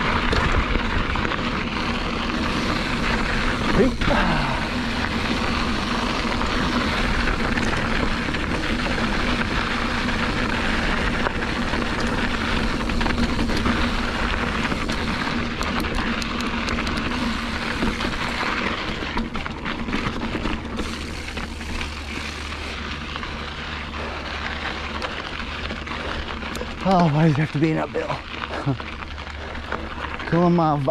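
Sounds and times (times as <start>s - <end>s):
bike clicks and rattles: 0.0s - 30.9s
tyres rolling on dirt road: 0.0s - 30.9s.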